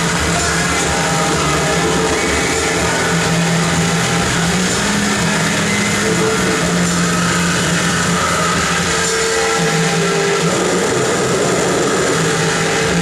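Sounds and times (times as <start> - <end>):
distorted hiss and grind: 0.0 - 13.0
low droning tones: 0.0 - 13.0.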